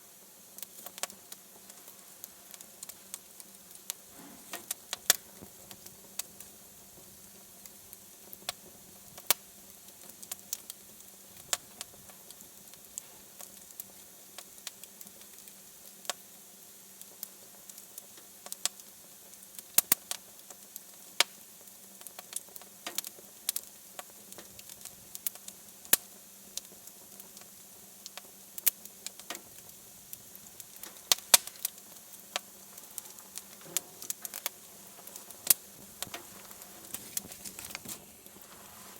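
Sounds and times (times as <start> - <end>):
faint steady hiss: 0.0 - 38.9
wood fire crackling: 0.0 - 38.9.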